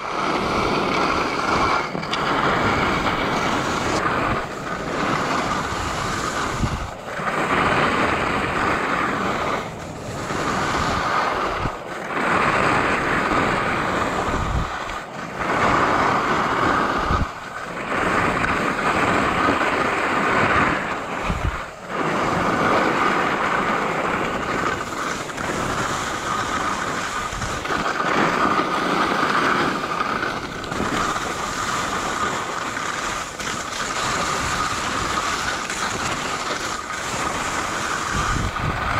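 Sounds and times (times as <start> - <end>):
skis scraping on snow: 0.0 - 38.9
wind noise on microphone: 0.0 - 38.9.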